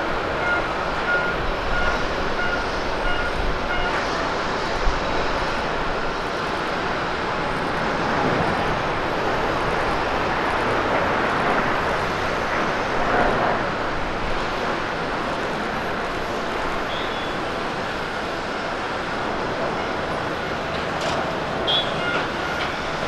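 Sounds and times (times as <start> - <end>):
jet engines at takeoff thrust: 0.0 - 23.0.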